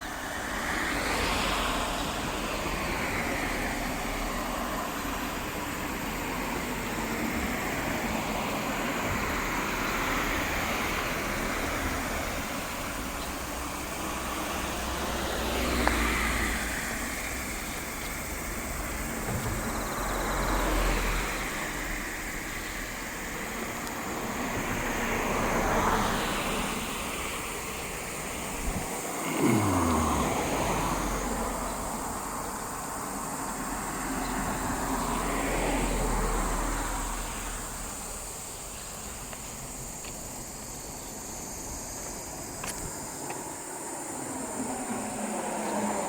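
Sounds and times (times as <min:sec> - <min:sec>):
cars passing: 0:00.0 - 0:46.0.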